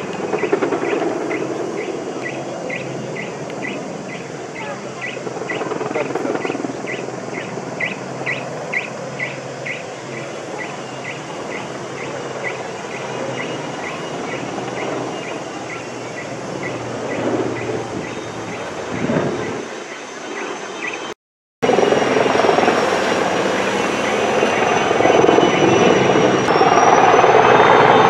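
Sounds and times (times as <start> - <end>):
distant helicopter rumble: 0.0 - 28.0.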